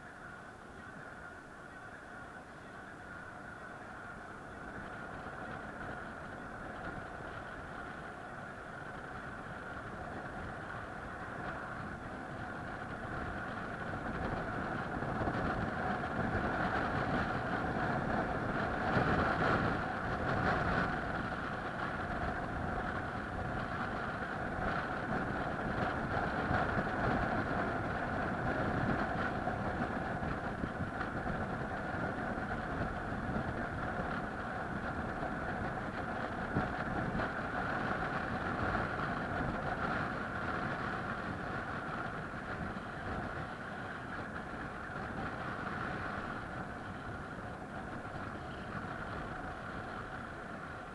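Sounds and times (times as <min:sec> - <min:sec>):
vehicle engine humming: 0:00.0 - 0:50.9.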